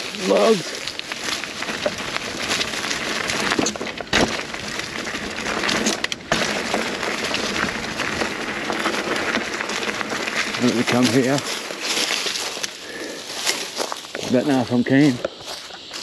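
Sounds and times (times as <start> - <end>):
bike clicks and rattles: 0.0 - 16.0
bike tyres over leaf litter: 0.0 - 16.0
bike knocking over logs: 0.3 - 14.3.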